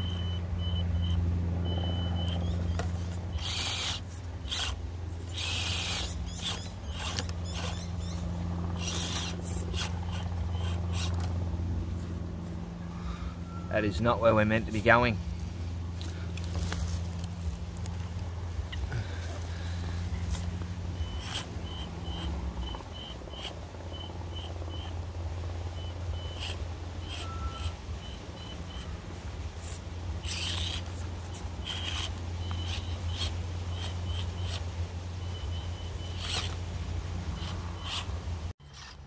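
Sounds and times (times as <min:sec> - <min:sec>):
small electric motor whirring: 0:00.1 - 0:12.6, 0:16.0 - 0:39.0.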